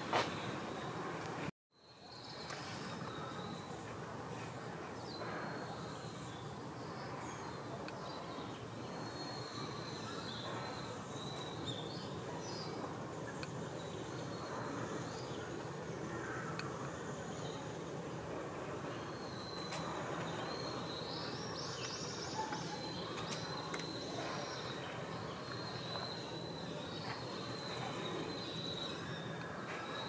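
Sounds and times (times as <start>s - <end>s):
outdoor background hiss: 0.0s - 30.0s
small birds chirping: 1.8s - 30.0s.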